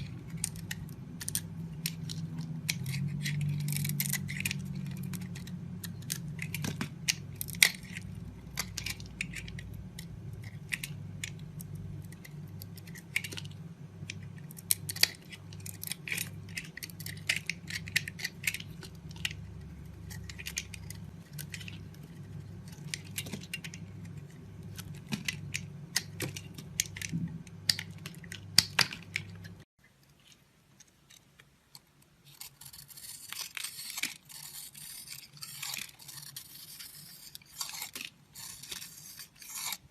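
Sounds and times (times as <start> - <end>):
blade scraping dry soap: 0.0 - 29.6, 32.2 - 39.9
low steady hum: 0.0 - 39.9.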